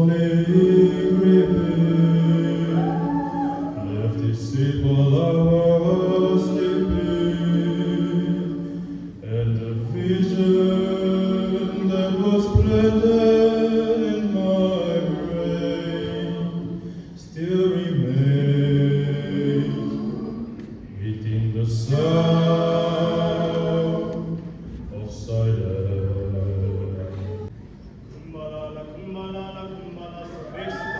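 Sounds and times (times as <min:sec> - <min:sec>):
mixed choir singing a cappella: 0:00.0 - 0:27.5.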